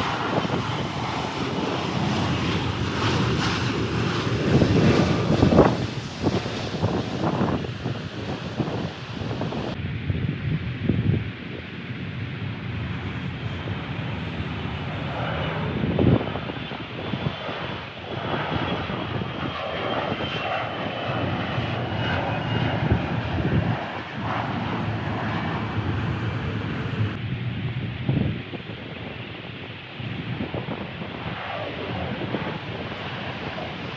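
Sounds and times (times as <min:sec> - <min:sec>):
high engine whine: 0:00.0 - 0:28.8
jet airliner flying past: 0:00.0 - 0:33.9
wind buffeting microphone: 0:00.0 - 0:33.9.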